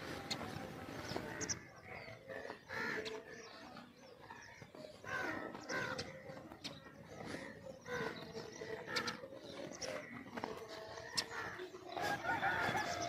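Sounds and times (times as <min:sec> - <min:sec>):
birds calling: 0:00.0 - 0:13.0
harsh bird calls: 0:00.0 - 0:13.0.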